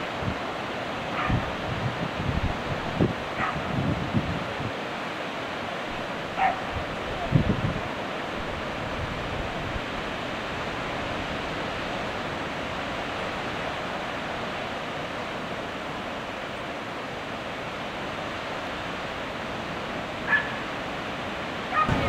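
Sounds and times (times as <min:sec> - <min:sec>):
sea surf breaking on beach: 0:00.0 - 0:22.0.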